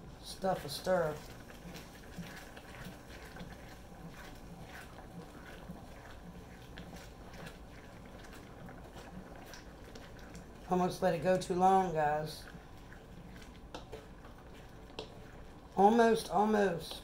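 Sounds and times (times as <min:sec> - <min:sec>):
wooden spatula scraping wok: 0:00.0 - 0:17.0.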